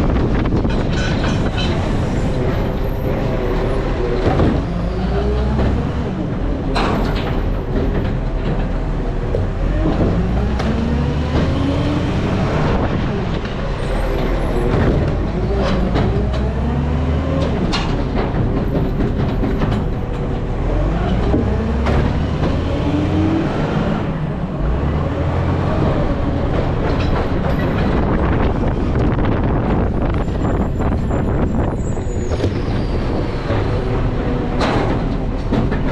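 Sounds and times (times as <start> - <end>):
knocks and rattles: 0.0 - 23.3, 24.6 - 31.8, 32.4 - 35.9.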